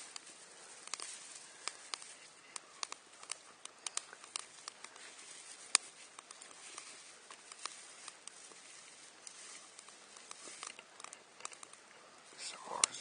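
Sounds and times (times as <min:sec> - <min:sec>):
small fire crackling: 0:00.0 - 0:13.0.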